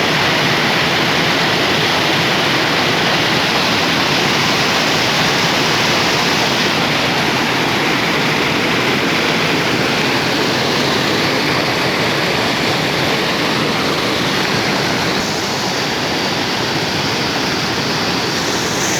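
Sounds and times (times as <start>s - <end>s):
spring water rushing and splashing: 0.0s - 18.9s.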